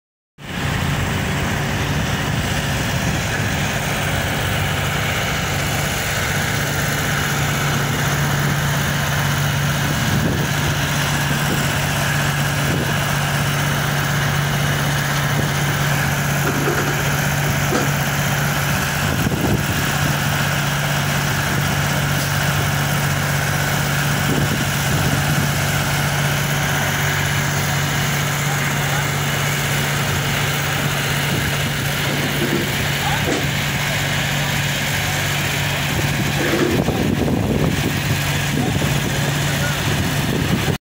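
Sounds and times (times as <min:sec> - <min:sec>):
diesel engine idling: 0:00.4 - 0:40.8.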